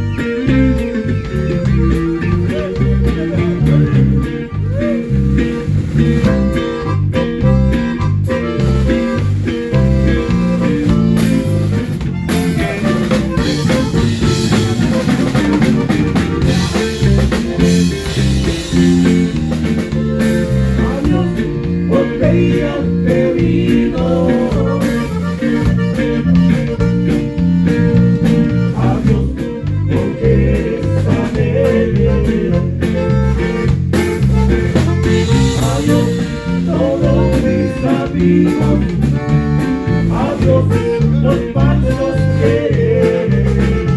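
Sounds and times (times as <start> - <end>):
drums: 0.0 - 43.9
guitar: 0.0 - 43.9
low bass line: 0.0 - 43.9.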